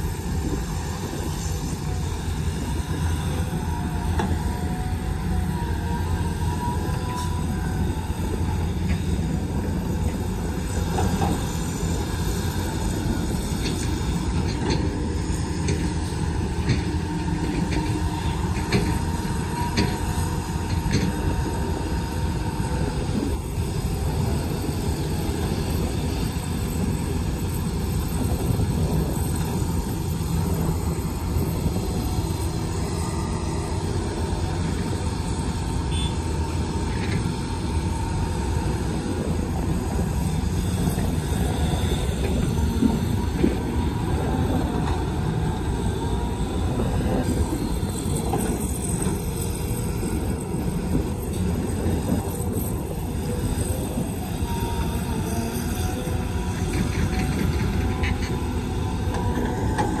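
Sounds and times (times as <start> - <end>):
excavator diesel engine under load: 0.0 - 60.0
hydraulic working noise: 0.0 - 60.0.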